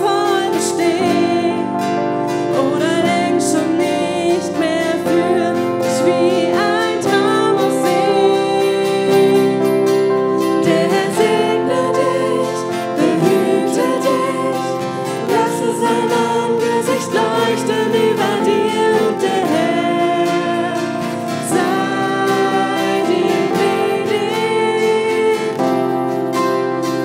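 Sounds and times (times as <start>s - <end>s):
woman singing into a microphone: 0.0s - 26.2s
strummed acoustic guitars: 0.0s - 27.0s.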